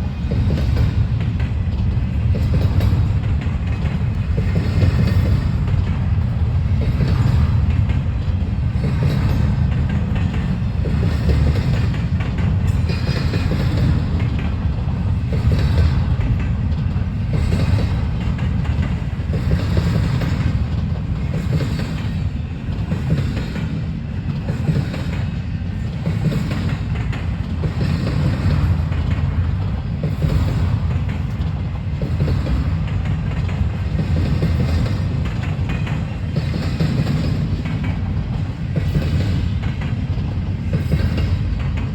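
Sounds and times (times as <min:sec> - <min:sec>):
train wheels rumbling on rail: 0:00.0 - 0:41.9
wheels clacking over rail joints: 0:00.0 - 0:41.9.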